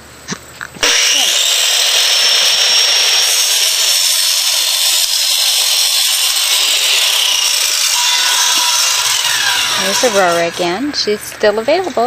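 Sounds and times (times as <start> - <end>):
power tools whirring: 0.8 - 11.7.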